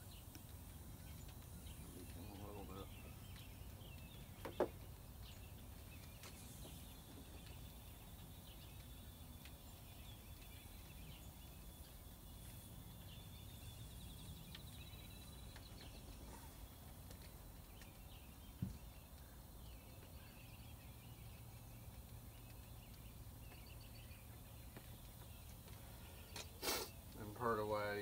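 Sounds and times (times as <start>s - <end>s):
bird chirps: 0.0s - 28.0s.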